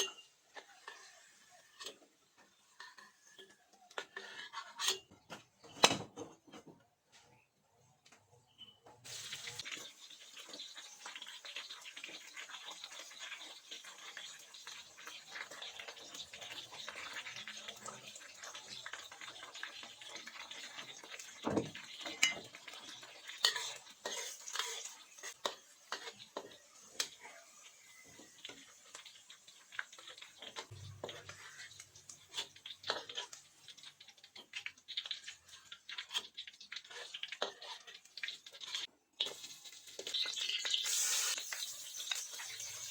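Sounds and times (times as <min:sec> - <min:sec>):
metal utensil scraping a pot: 0:00.0 - 0:06.7, 0:08.5 - 0:39.4.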